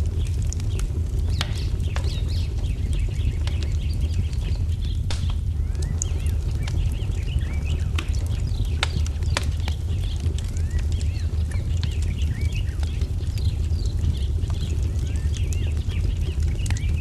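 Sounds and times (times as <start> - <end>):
small birds chirping: 0.0 - 17.0
wood fire crackling: 0.0 - 17.0.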